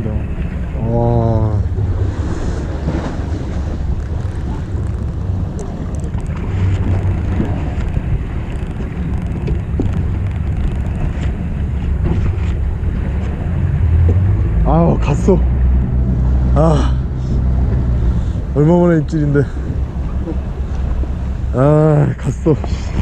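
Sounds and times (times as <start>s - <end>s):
boat engine humming: 0.0s - 23.0s
sea water washing: 0.0s - 23.0s
wind buffeting microphone: 0.0s - 23.0s.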